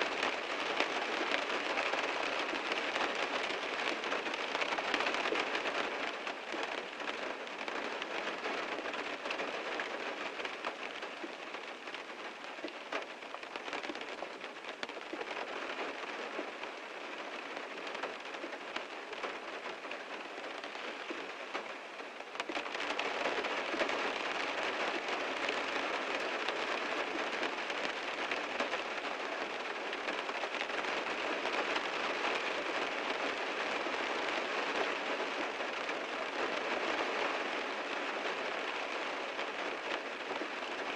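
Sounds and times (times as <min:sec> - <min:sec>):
heavy rain on a car: 0:00.0 - 0:40.9.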